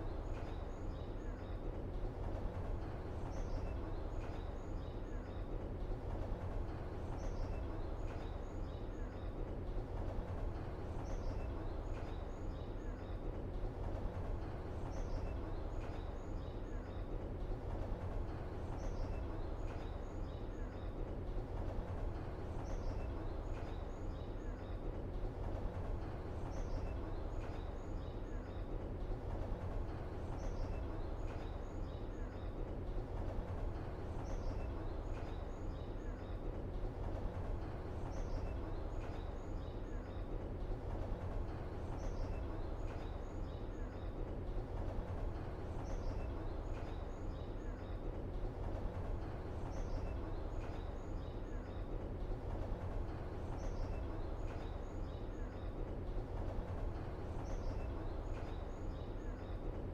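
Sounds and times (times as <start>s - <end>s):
small birds chirping: 11.0s - 59.9s.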